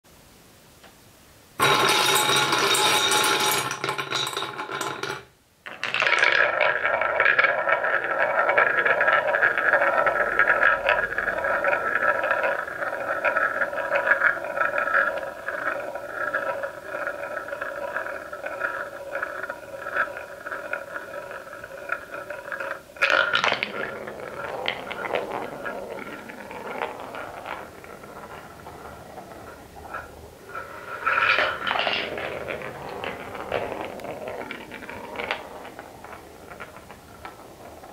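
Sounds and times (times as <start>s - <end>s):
wooden ball rolling along track: 1.6s - 37.9s
wooden balls rolling in wooden bowl: 1.6s - 37.9s.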